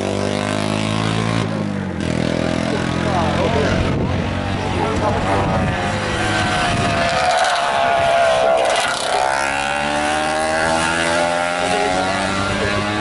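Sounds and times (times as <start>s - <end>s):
motorcycle accelerating: 0.0s - 13.0s
motorcycle engine passing: 0.0s - 13.0s.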